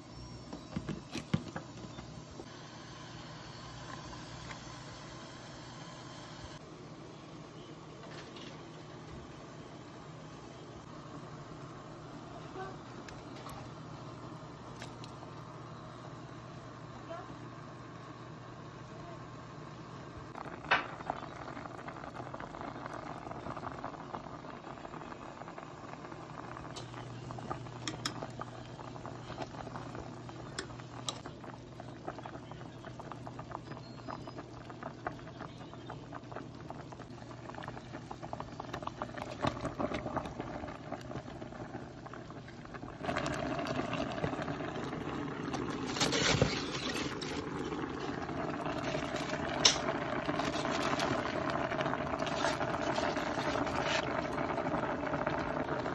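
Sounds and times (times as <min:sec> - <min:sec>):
pot boiling and bubbling: 0:00.0 - 0:55.9.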